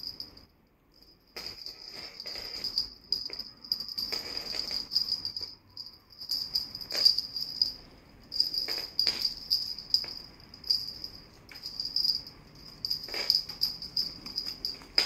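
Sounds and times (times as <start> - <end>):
small bells jingling: 0.0 - 15.0.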